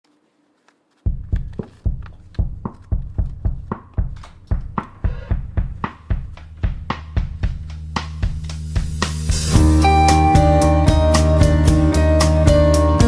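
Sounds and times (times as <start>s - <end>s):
music with heavy drum beat: 1.1s - 13.0s.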